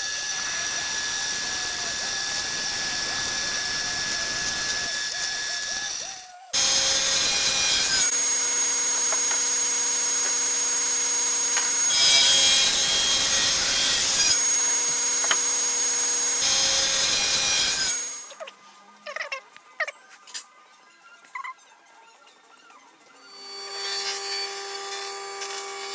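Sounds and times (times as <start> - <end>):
band saw cutting: 0.0 - 18.4, 23.3 - 25.9
table saw cutting metal: 0.0 - 18.4, 23.2 - 25.9.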